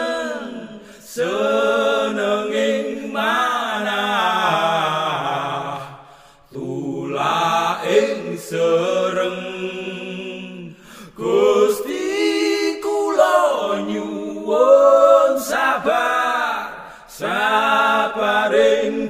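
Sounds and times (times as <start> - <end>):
person singing a slow chant: 0.0 - 19.0.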